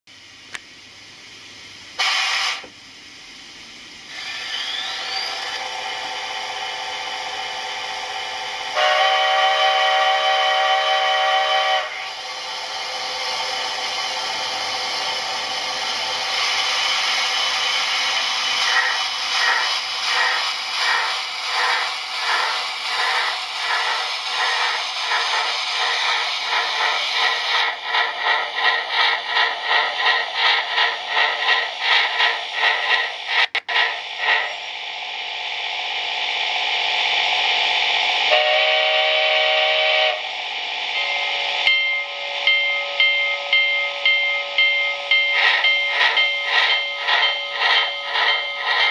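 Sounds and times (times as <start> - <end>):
steam locomotive exhaust chuffs: 0.1 - 48.9
steam hiss: 0.2 - 2.7, 3.3 - 41.6, 42.3 - 48.9.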